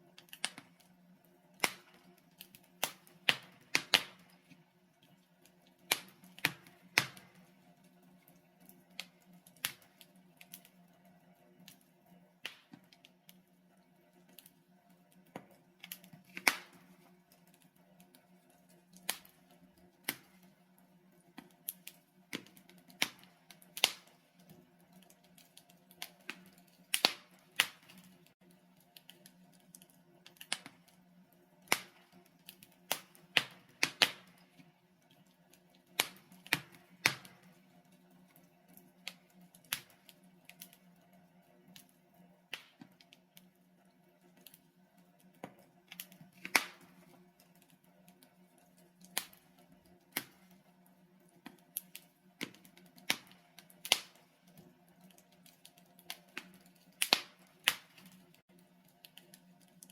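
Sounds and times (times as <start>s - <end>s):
burning logs crackling and popping: 0.0s - 59.9s.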